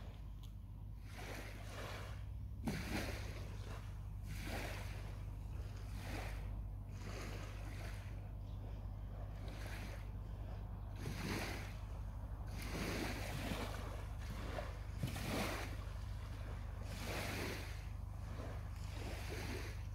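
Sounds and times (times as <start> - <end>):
small waves lapping on sand: 0.0 - 19.9
steady low rumble: 0.0 - 19.9.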